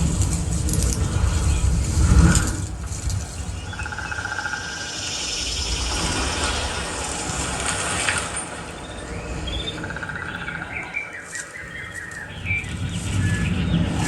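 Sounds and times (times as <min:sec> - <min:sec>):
birds chirping: 0:00.0 - 0:14.0
rushing noise: 0:00.0 - 0:14.0.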